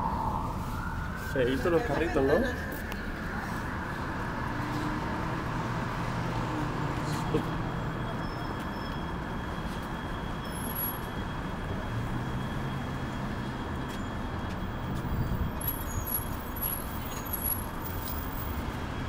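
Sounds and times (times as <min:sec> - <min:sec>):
street traffic: 0:00.0 - 0:19.0
vehicle engines humming: 0:00.0 - 0:19.0.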